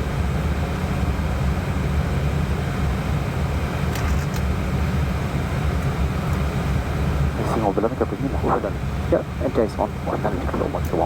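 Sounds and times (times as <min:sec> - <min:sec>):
cockpit airflow and engine rumble: 0:00.0 - 0:11.0.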